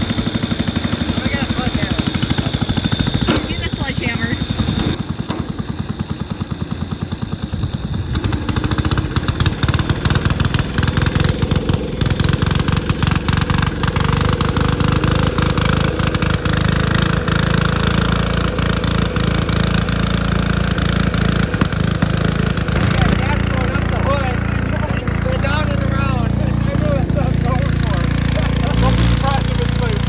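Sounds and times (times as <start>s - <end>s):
lawn tractor engine over-revving: 0.0s - 30.0s.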